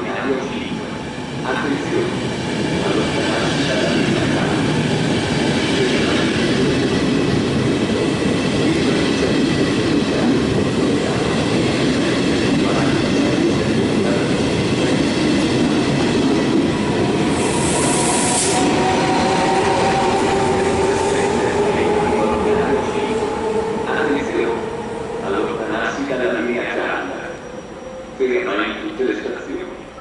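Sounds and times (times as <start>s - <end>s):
train wheels rumbling on rails: 0.1s - 27.3s.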